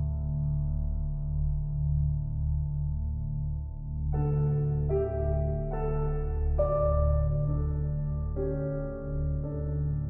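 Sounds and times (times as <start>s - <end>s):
ambient droning music: 0.0s - 10.0s.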